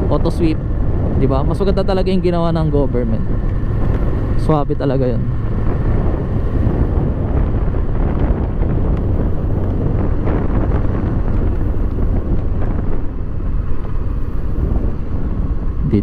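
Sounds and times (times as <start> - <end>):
motorcycle engine droning: 0.0 - 16.0
wind rushing over microphone: 0.0 - 16.0.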